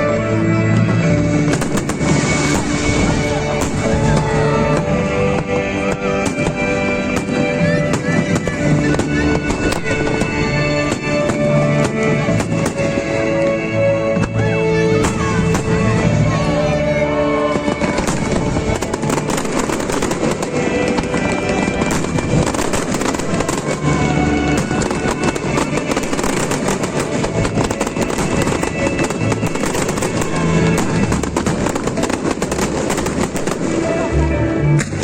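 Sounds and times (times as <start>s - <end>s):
fireworks bangs and crackle: 0.0s - 35.0s
loud music: 0.0s - 35.0s.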